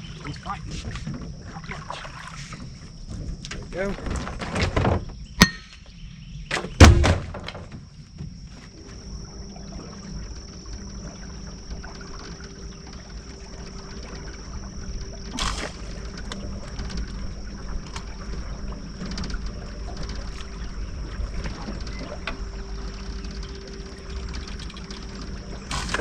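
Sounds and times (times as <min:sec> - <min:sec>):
boat motor humming: 0:00.0 - 0:04.4, 0:07.2 - 0:26.0
water trickling and splashing: 0:00.0 - 0:04.6, 0:07.3 - 0:26.0.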